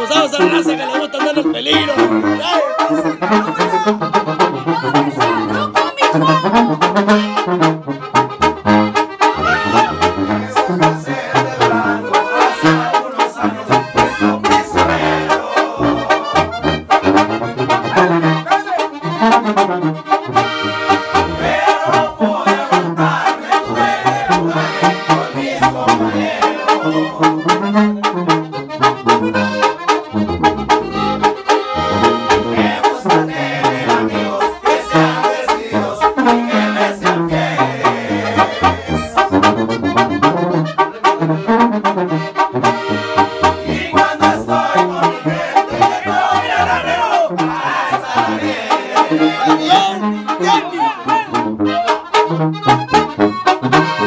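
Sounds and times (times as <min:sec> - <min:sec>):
accordion: 0:00.0 - 0:54.0
brass playing: 0:00.0 - 0:54.0
sousaphone bass line: 0:00.0 - 0:54.0.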